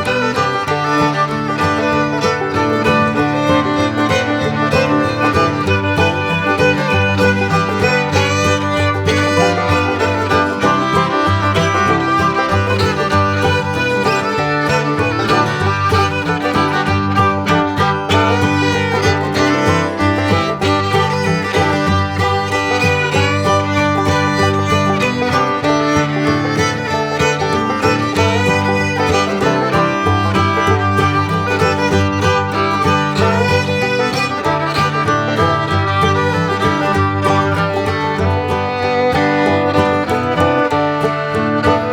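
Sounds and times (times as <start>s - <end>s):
instrumental background music: 0.0s - 41.9s.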